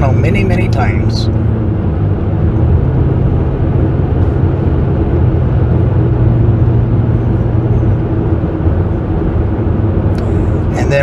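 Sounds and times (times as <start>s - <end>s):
minivan road and engine noise: 0.0s - 11.0s.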